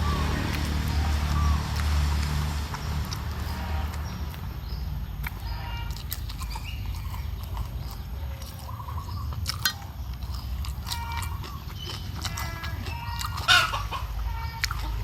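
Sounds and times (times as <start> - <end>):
chewing and crunching food: 0.0 - 15.0
chicken clucking: 0.0 - 15.0
steady low rumble: 0.0 - 15.0.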